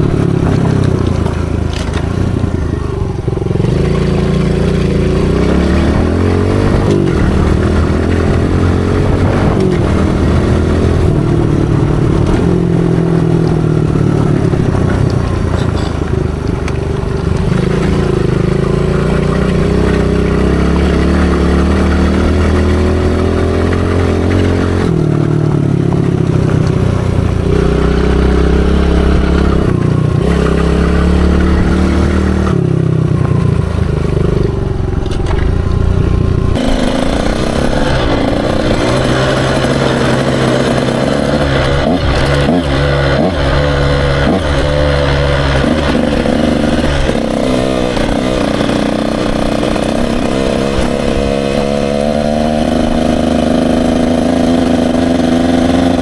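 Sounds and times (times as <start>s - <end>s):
dirt bike engine revving: 0.0s - 56.0s
second dirt bike engine: 0.0s - 56.0s.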